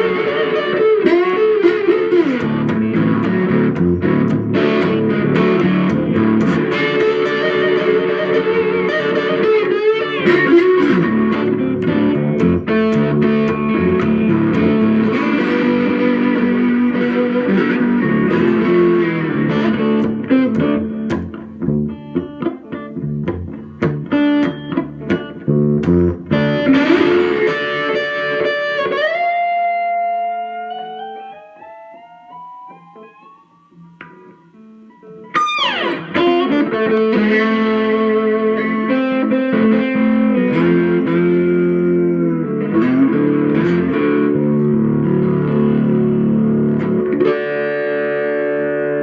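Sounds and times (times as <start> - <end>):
slide electric guitar: 0.0 - 49.0.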